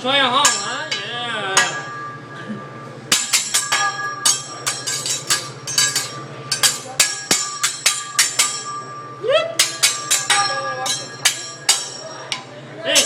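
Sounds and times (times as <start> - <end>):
metal spatula and knife clanging: 0.4 - 13.0.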